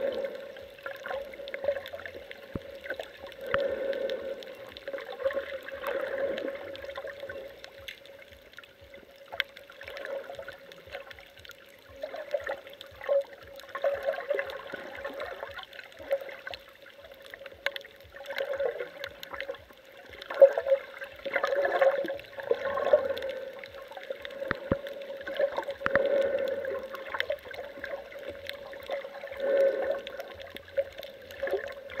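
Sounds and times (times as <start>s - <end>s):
muffled water gurgling underwater: 0.0s - 32.0s.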